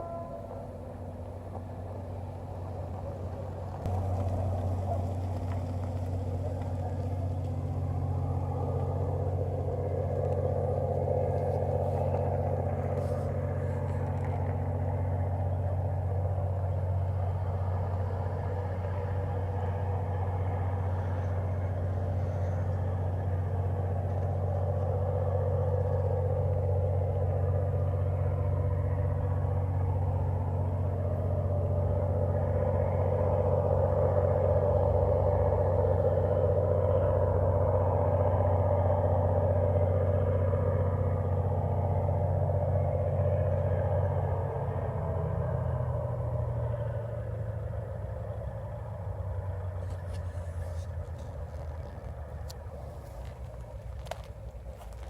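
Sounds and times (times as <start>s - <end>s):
diesel locomotive engine humming: 0.0s - 55.0s.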